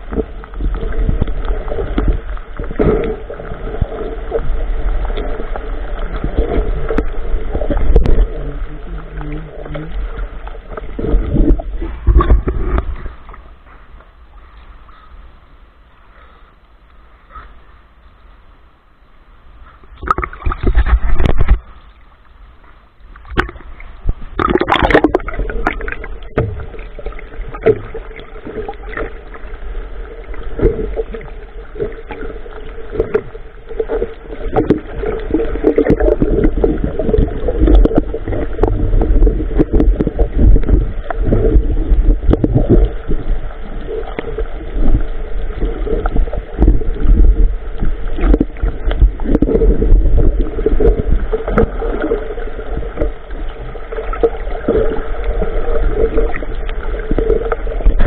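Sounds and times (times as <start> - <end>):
heavy low rumble: 0.0 - 14.0, 25.0 - 58.0
water sloshing and splashing: 0.0 - 14.7, 20.0 - 58.0.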